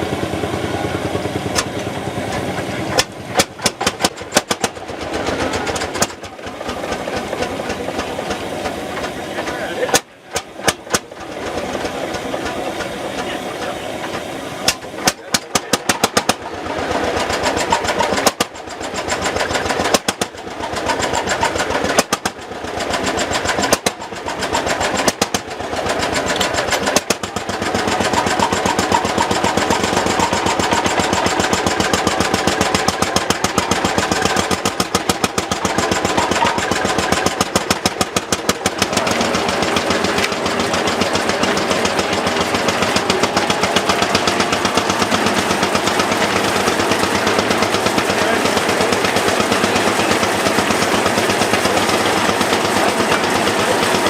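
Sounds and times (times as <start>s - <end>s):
tractor engine knocking: 0.0s - 54.0s.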